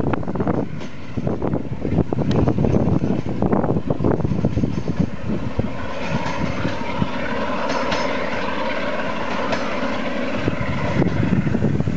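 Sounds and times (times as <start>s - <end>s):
diesel locomotive engine: 0.0s - 11.9s
wheels rumbling on rails: 0.0s - 11.9s
wind buffeting microphone: 0.0s - 11.9s.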